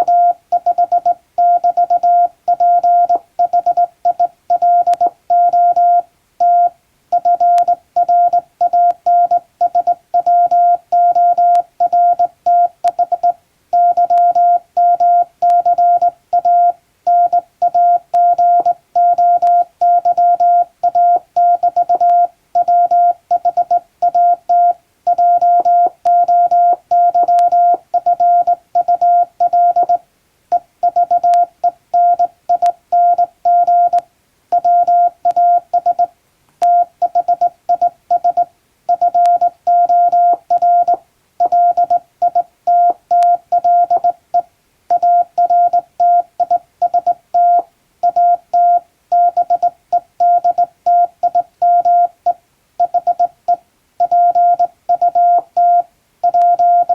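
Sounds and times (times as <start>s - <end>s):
morse code tone: 0.0s - 56.9s.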